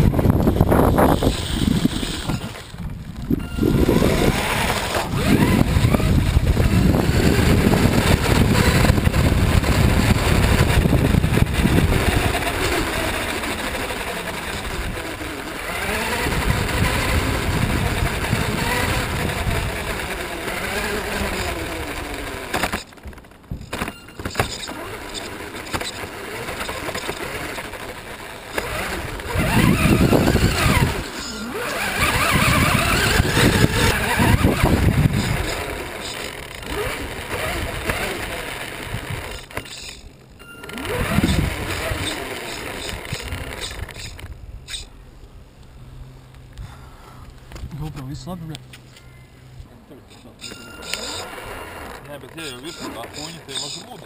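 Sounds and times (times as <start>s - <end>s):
electric motor whine: 0.0s - 44.9s, 50.4s - 54.0s
tyres on gravel and grass: 0.0s - 54.0s.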